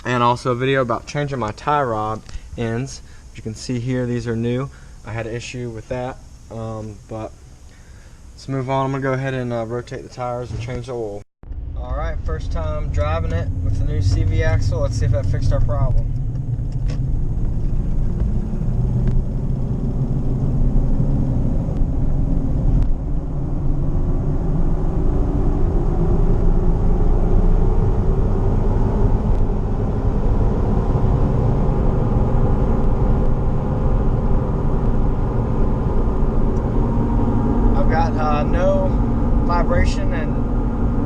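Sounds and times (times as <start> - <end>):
car engine and road rumble: 0.0 - 41.0
tire hum: 0.0 - 41.0.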